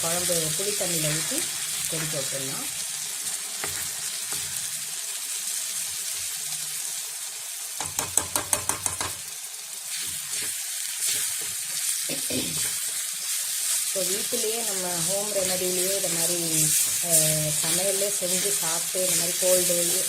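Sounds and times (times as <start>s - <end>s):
paste sizzling in hot oil: 0.0s - 20.0s.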